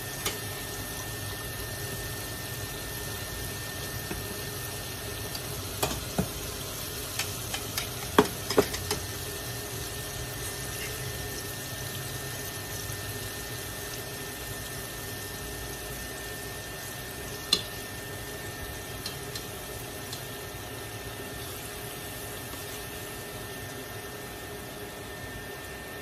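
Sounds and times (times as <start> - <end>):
hot oil bubbling and sizzling: 0.0 - 26.0.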